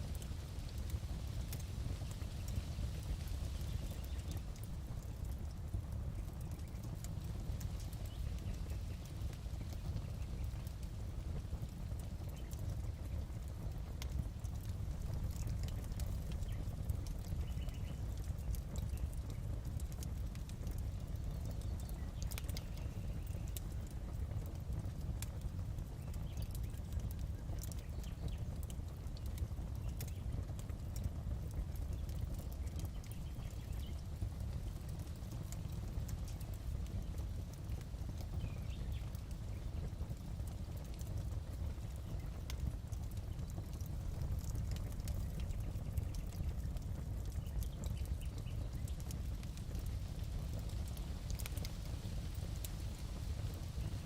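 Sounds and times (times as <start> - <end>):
fire crackling and popping: 0.0 - 54.0
low fire rumble: 0.0 - 54.0.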